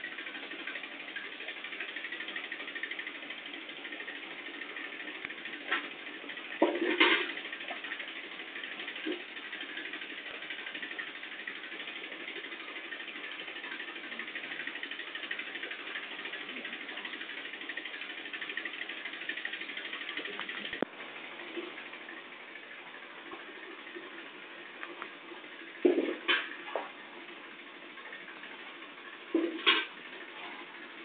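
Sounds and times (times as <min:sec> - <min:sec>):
small machine buzzing hum: 0:00.0 - 0:31.0.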